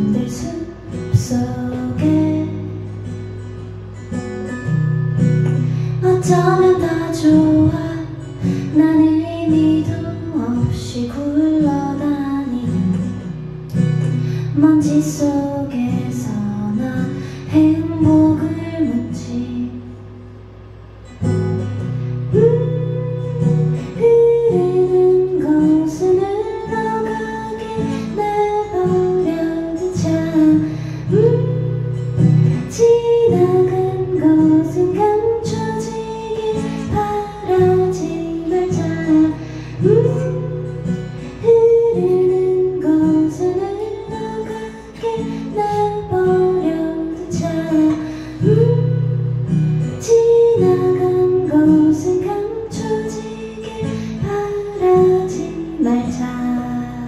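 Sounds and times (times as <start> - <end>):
woman singing: 0.0 - 3.5, 5.4 - 20.1, 22.2 - 57.0
acoustic guitar: 0.0 - 57.0.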